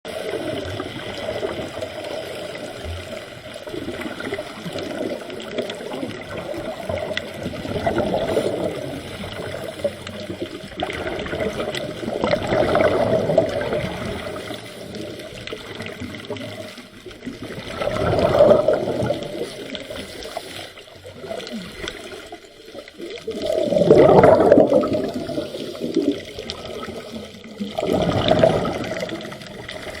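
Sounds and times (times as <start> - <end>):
low underwater rumble: 0.1 - 20.2, 20.9 - 30.0
exhaled bubbles underwater: 0.1 - 30.0.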